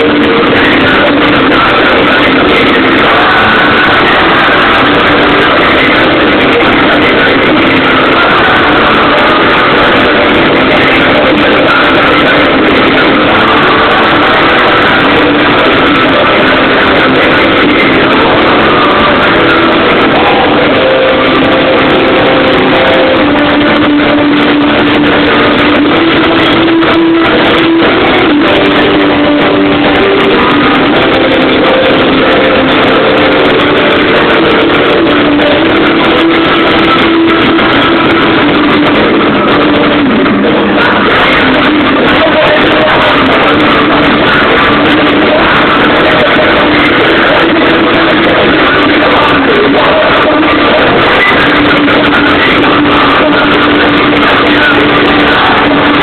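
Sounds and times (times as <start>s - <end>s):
distorted live rock music: 0.0s - 56.0s.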